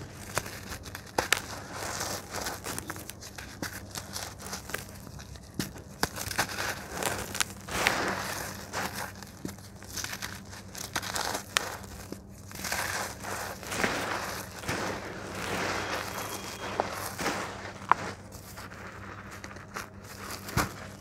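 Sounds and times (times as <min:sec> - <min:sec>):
hands crunching gritty dust: 0:00.0 - 0:21.0
small cracks: 0:00.0 - 0:21.0.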